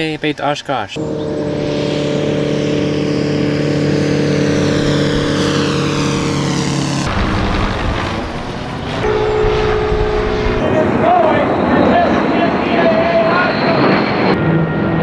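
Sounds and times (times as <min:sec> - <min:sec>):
propeller aircraft engine droning: 0:01.0 - 0:15.0.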